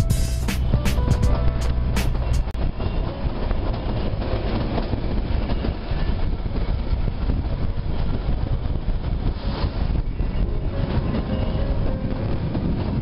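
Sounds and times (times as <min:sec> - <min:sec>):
train coaches rumbling and rattling: 0:00.0 - 0:13.0.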